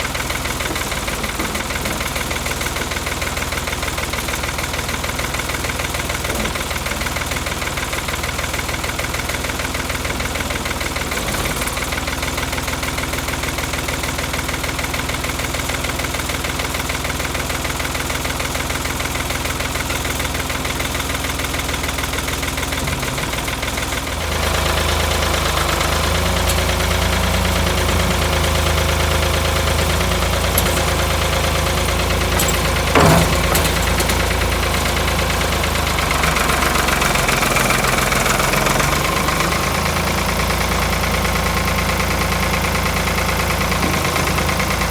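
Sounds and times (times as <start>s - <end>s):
backhoe engine idling: 0.0s - 44.9s.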